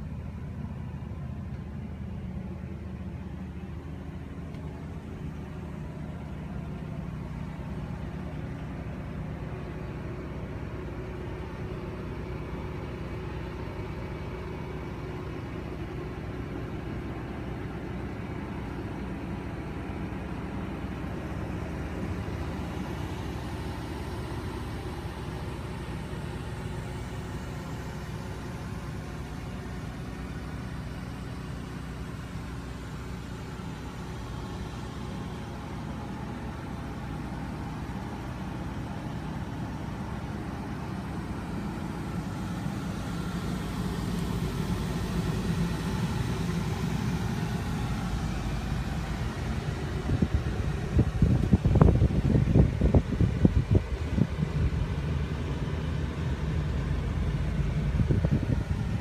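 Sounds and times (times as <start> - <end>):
low mechanical rumble: 0.0 - 59.0.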